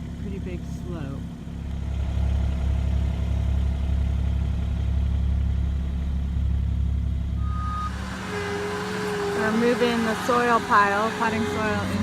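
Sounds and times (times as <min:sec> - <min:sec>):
earthmoving equipment engine: 0:00.0 - 0:12.0.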